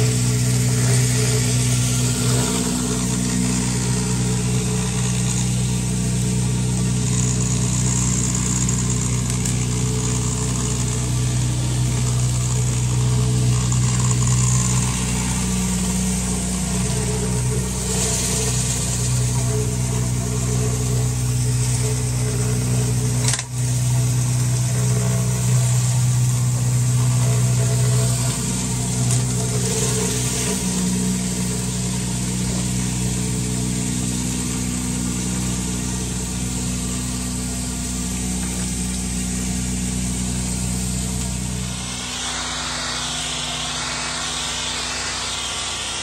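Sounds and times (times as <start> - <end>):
small gasoline engine running: 0.0 - 46.0.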